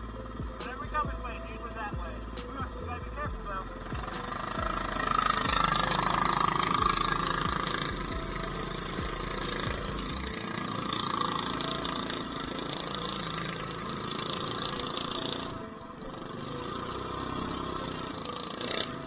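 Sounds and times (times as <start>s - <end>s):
small bike engine running: 0.0s - 19.0s.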